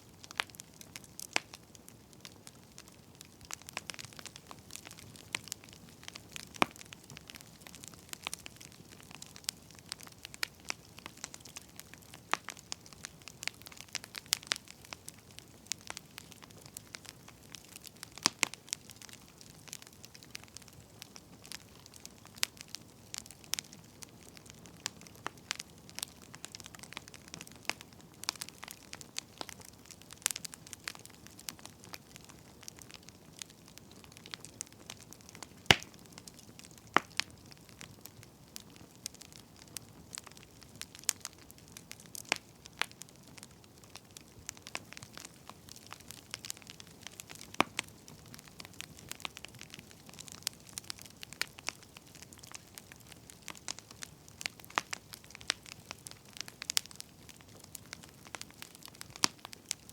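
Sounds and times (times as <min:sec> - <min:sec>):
firewood crackling: 0:00.0 - 0:59.9.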